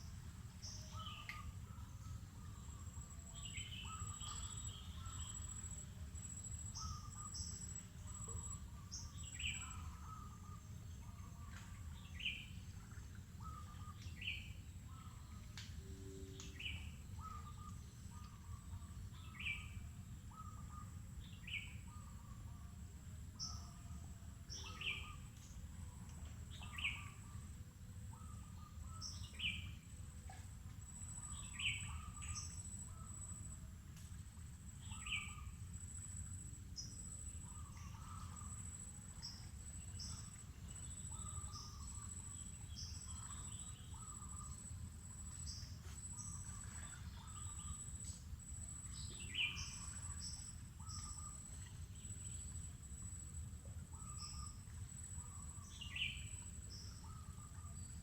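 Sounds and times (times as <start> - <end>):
high insect hum: 0.0 - 58.0.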